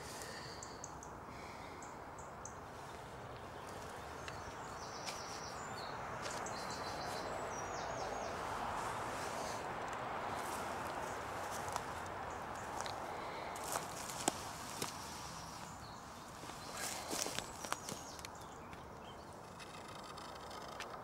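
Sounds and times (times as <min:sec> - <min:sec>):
small songbird chirping: 0:00.0 - 0:09.7, 0:10.3 - 0:21.0
steady outdoor hiss: 0:00.0 - 0:21.0.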